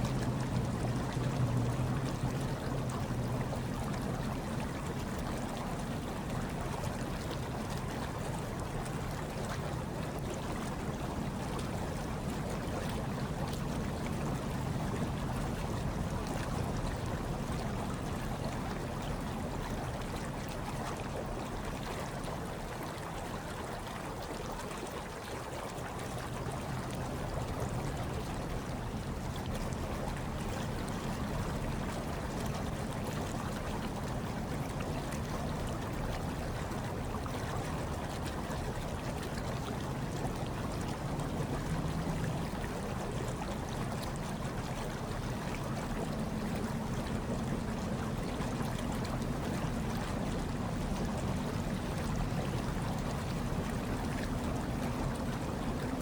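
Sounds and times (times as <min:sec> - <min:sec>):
hot tub water churning: 0:00.0 - 0:56.0.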